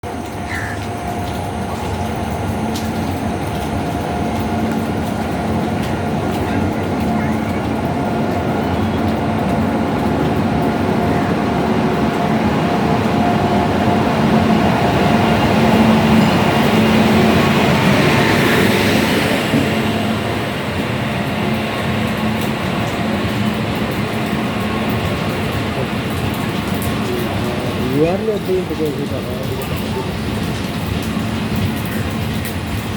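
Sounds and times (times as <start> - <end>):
train rumbling on rails: 0.0 - 32.9.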